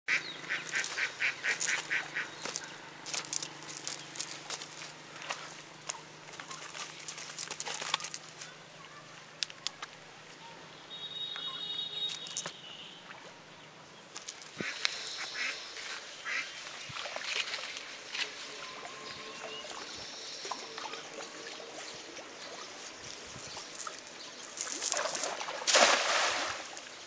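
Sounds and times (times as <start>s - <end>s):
birds calling: 0.1s - 9.7s, 10.8s - 27.0s.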